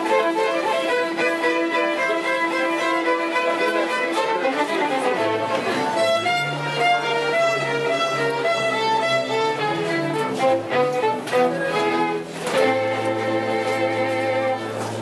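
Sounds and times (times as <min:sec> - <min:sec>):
bowed strings: 0:00.0 - 0:15.0
violin melody: 0:00.0 - 0:15.0.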